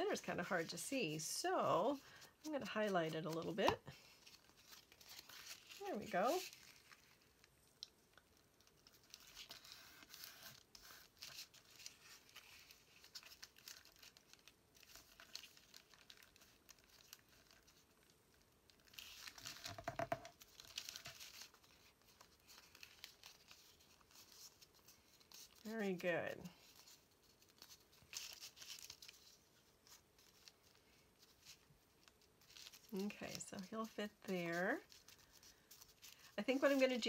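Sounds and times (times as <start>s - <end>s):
paper rustling and crinkling: 0.0s - 37.0s.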